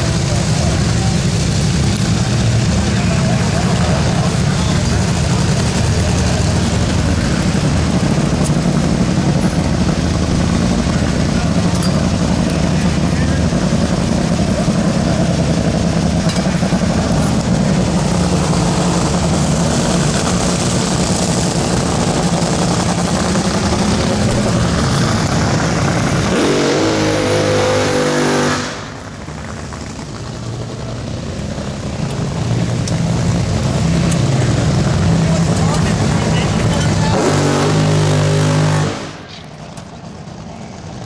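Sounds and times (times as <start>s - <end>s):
engine revving: 0.0s - 29.4s, 31.8s - 39.4s
racing engines roaring: 0.0s - 41.0s.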